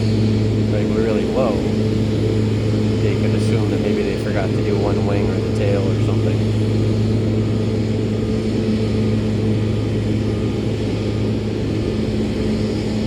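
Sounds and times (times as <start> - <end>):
loud engine drone: 0.0 - 13.0.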